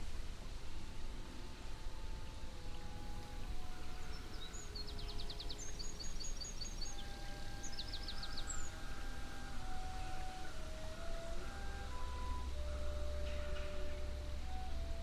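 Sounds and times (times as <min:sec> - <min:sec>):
low background rush: 0:00.0 - 0:15.0
songbird singing high notes: 0:02.2 - 0:15.0.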